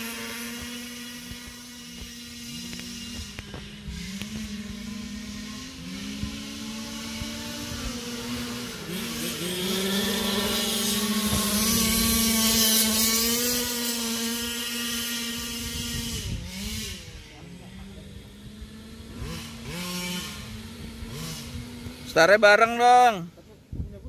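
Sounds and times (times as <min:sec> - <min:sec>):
two-stroke engine buzzing: 0:00.0 - 0:23.8.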